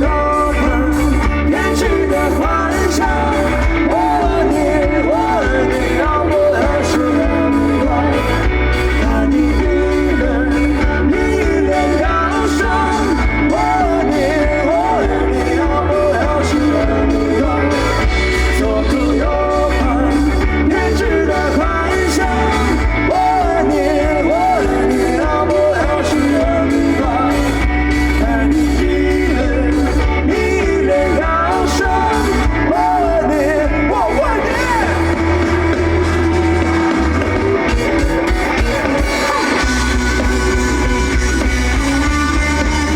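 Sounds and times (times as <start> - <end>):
lead vocals singing: 0.0 - 42.9
pop-rock band playing live: 0.0 - 42.9.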